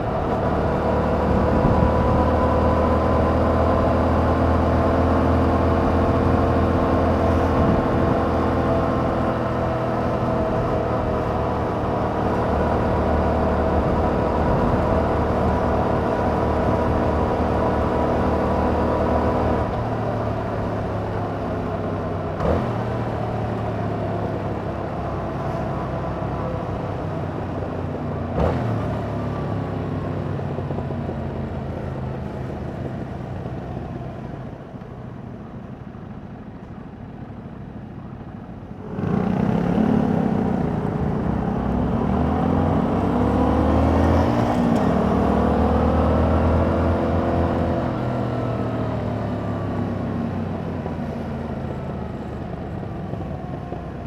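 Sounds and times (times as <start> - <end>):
motorcycle engine accelerating: 0.0 - 34.8, 38.2 - 54.0.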